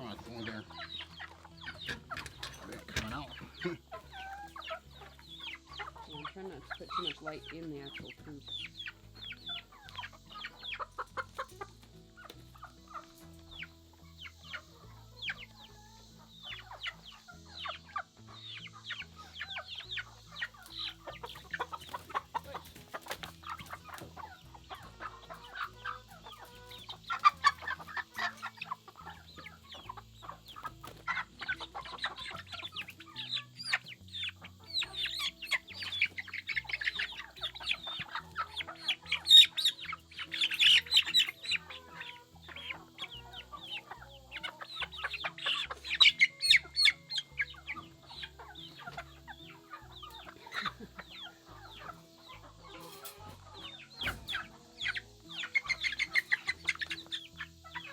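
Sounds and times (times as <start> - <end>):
chicks peeping and chirping: 0.0 - 57.9.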